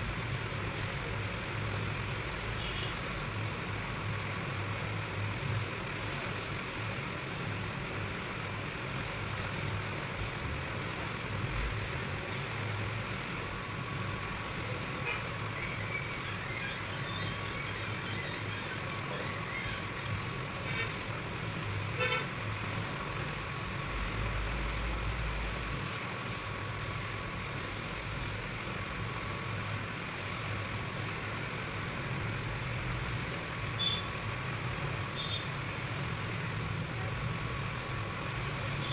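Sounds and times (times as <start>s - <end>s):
low hum of street traffic: 0.0s - 38.9s.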